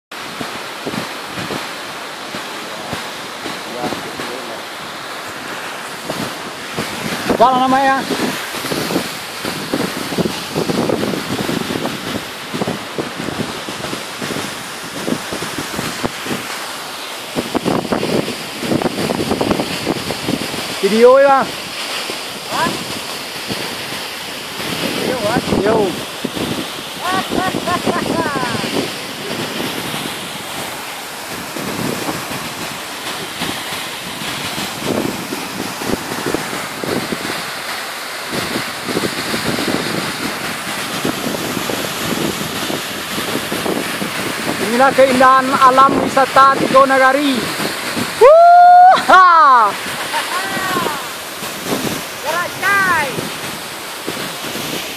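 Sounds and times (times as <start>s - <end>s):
waterfall roaring: 0.1s - 54.9s
wind buffeting microphone: 0.1s - 54.9s.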